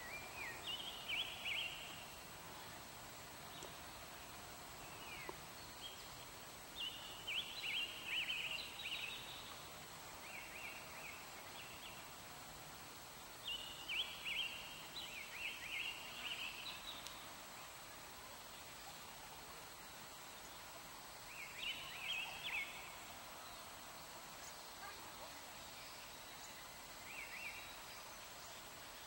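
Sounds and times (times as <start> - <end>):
faint background hiss: 0.0 - 29.0
songbird chirping: 0.0 - 29.0.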